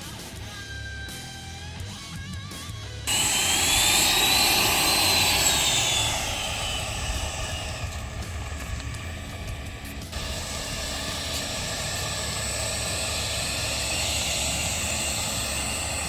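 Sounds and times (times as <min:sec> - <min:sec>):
electric ducted fans whining: 0:03.1 - 0:16.0.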